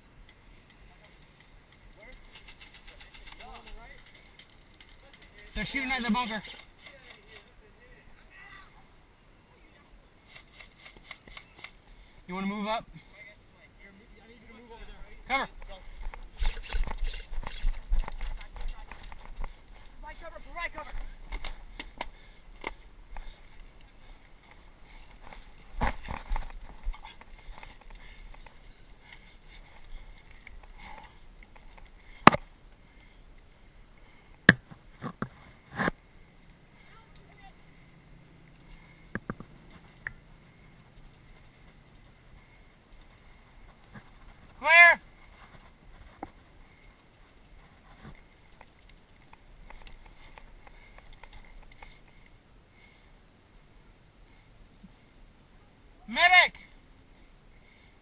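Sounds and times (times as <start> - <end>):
faint rustling of movement: 0.0 - 58.0
low outdoor noise: 0.0 - 58.0.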